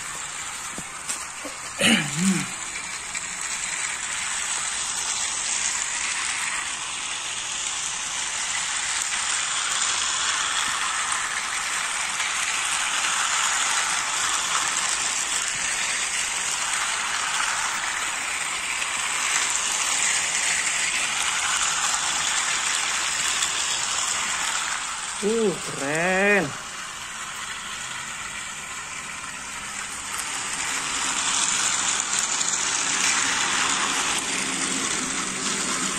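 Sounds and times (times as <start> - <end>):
toy trains whirring and rattling: 0.0 - 35.9.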